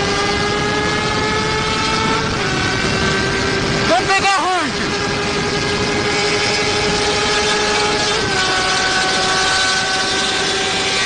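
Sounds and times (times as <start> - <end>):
motorcycle engine at high revs: 0.0 - 11.0
wind rushing over microphone: 0.0 - 11.0.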